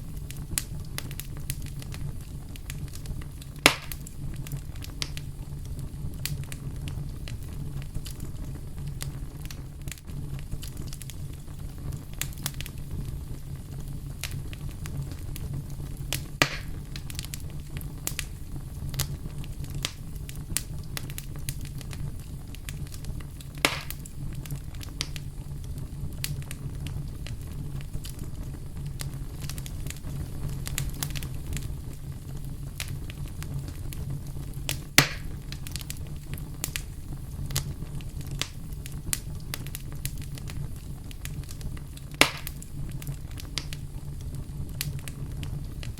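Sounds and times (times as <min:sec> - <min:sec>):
flames rumbling: 0:00.0 - 0:45.9
wood crackling and popping: 0:00.0 - 0:45.9.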